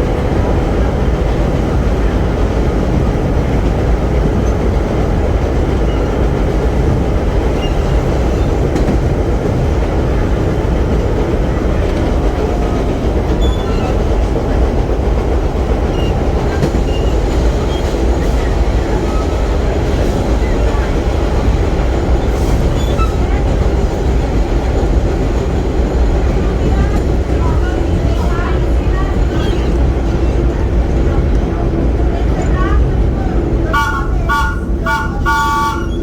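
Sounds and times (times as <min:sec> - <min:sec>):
subway wheels rumbling on rail: 0:00.0 - 0:36.0.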